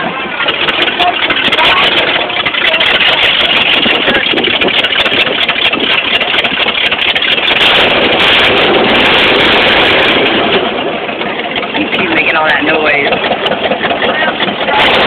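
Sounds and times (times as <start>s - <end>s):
backhoe engine running: 0.0s - 15.0s
dense clatter: 0.0s - 15.0s.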